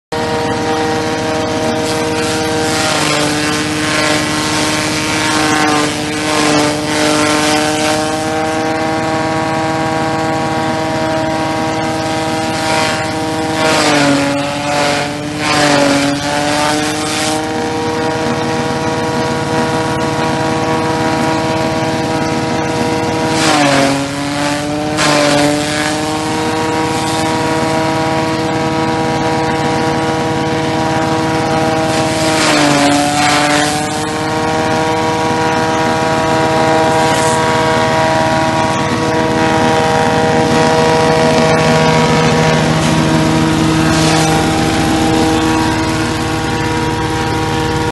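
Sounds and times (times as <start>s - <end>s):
grass chopper machine running: 0.1s - 47.9s
blades shredding grass: 0.2s - 47.9s.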